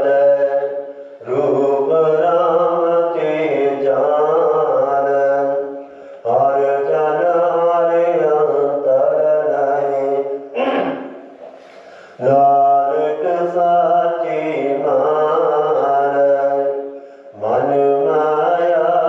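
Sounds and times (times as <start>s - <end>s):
man chanting: 0.0s - 11.3s, 12.1s - 19.0s.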